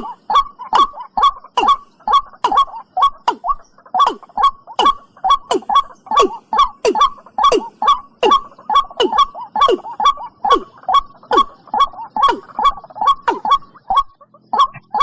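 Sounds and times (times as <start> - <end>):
bird calling in descending calls: 0.0 - 15.0.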